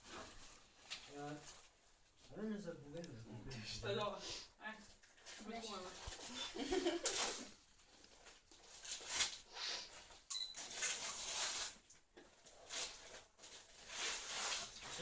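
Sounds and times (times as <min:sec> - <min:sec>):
wrapping paper crinkling and tearing: 0:00.0 - 0:02.2, 0:05.0 - 0:15.0.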